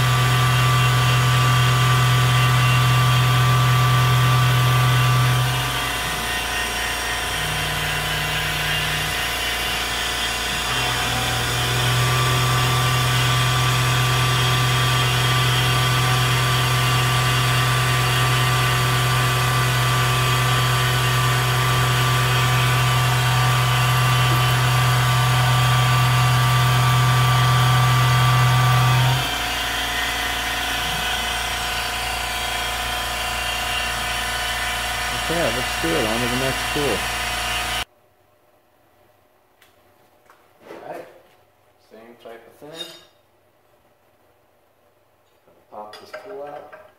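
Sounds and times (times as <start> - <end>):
low cutting hum: 0.0 - 37.9
milling machine whine: 0.0 - 37.9.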